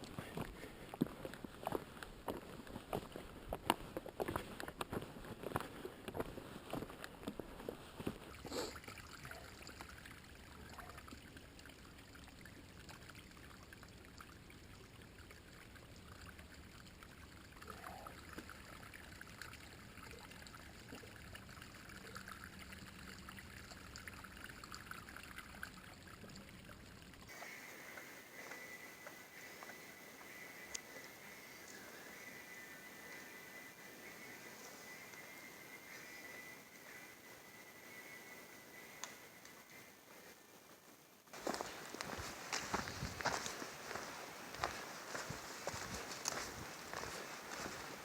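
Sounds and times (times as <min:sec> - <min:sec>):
stream flowing: 0:00.0 - 0:48.0.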